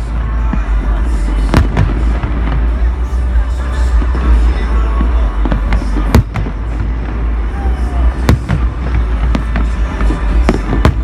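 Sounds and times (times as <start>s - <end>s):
fireworks bangs: 0.0s - 11.0s
steady low rumble: 0.0s - 11.0s.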